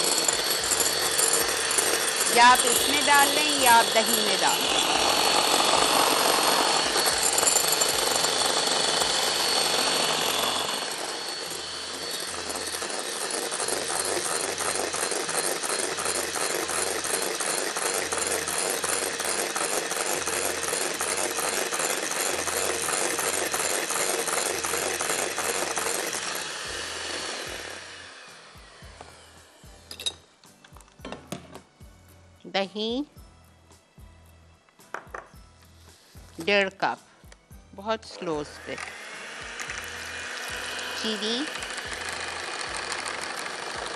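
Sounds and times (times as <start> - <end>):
electric hand mixer whisking: 0.0 - 29.7, 38.2 - 43.9.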